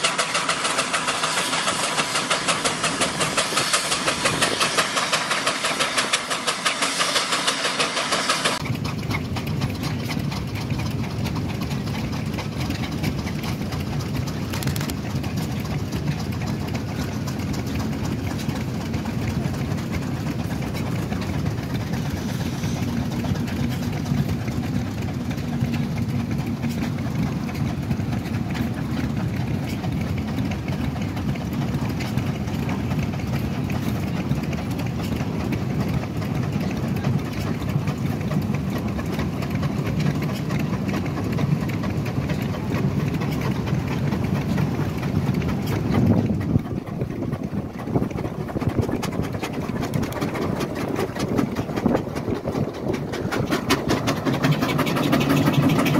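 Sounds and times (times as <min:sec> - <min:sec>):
steam engines pulsing under load: 0:00.0 - 0:55.9.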